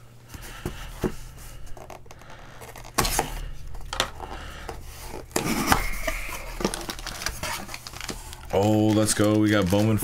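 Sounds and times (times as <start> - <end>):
packaging rubbing and scraping: 1.3 - 10.0.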